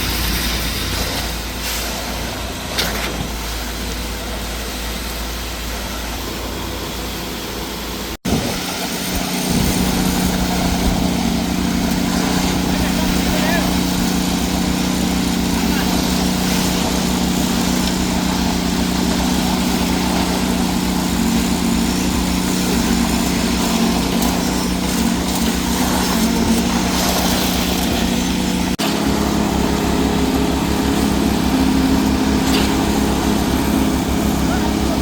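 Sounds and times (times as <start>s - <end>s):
heavy diesel truck engine running: 0.0s - 35.0s.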